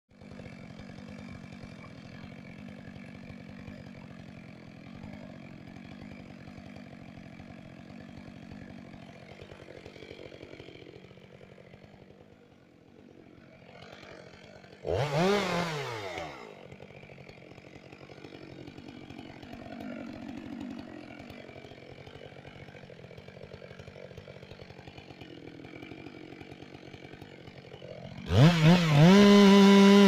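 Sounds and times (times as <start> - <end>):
chainsaw engine running: 0.1 - 30.0.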